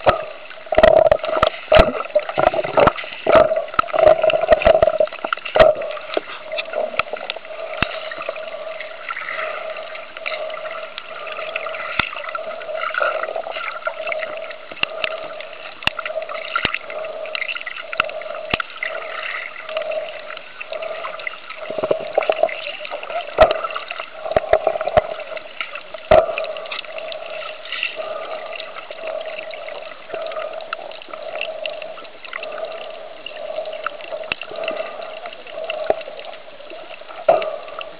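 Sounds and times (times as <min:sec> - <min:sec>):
underwater sloshing and gurgling: 0:00.0 - 0:37.9.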